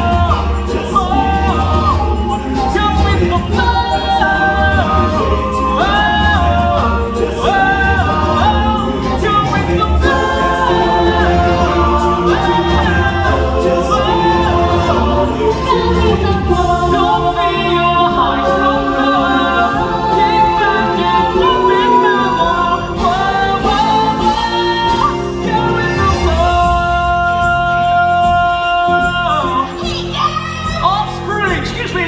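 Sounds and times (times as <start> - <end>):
voices singing together: 0.0 - 30.7
backing music: 0.0 - 32.0.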